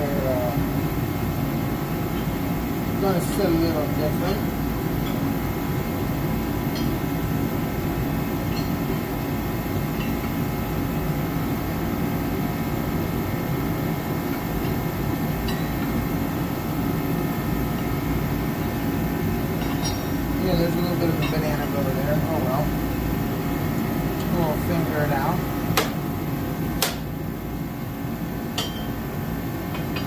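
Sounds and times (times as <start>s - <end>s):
heater droning: 0.0s - 30.0s.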